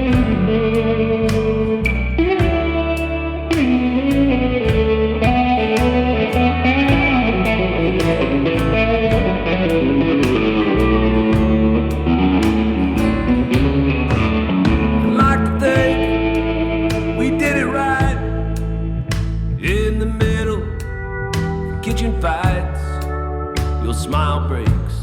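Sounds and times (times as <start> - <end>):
electric guitar lead with bends: 0.0 - 24.5
upright bass: 0.0 - 25.0
drums: 0.1 - 0.6, 1.2 - 2.8, 3.5 - 25.0.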